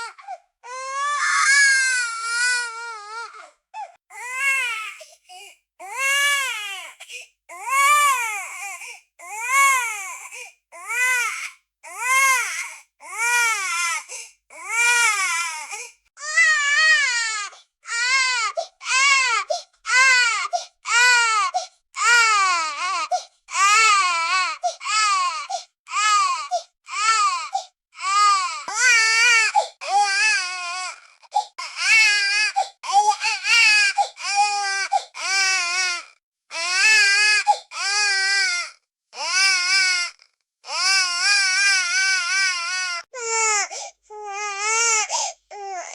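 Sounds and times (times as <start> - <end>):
newborn baby crying: 0.0 - 3.5, 4.1 - 45.9.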